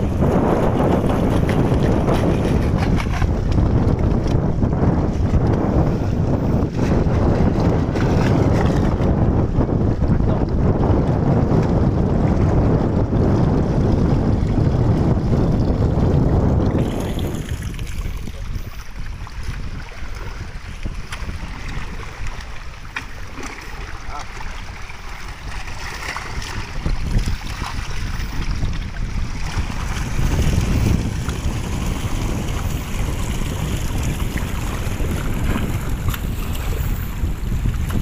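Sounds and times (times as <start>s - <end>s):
sea water: 0.0s - 38.0s
wind buffeting microphone: 0.0s - 38.0s.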